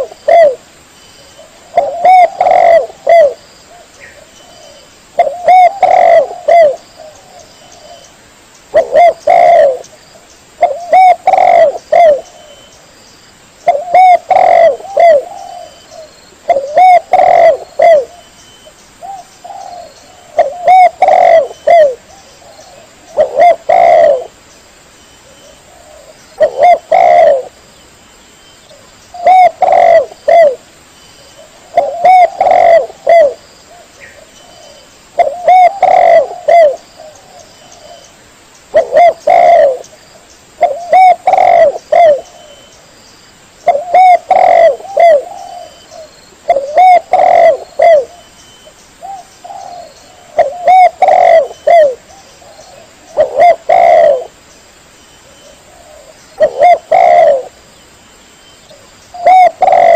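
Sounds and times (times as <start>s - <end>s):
dove cooing: 0.0s - 0.6s, 1.4s - 8.1s, 8.7s - 9.9s, 10.6s - 12.7s, 13.6s - 18.3s, 19.0s - 24.4s, 25.2s - 27.6s, 28.7s - 30.6s, 31.4s - 38.1s, 38.7s - 39.9s, 40.6s - 42.7s, 43.6s - 48.3s, 49.0s - 54.4s, 55.2s - 57.6s, 58.7s - 59.9s.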